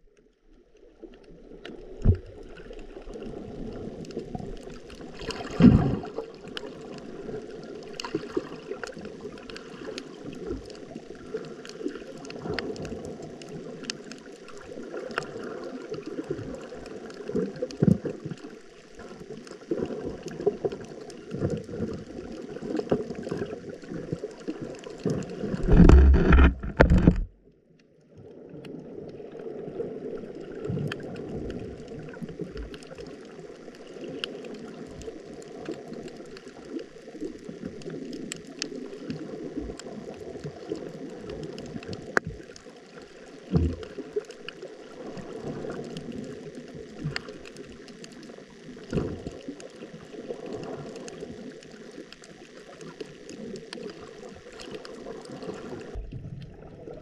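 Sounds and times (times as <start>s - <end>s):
faint underwater clicks: 0.0s - 57.0s
underwater gurgling wash: 0.0s - 57.0s.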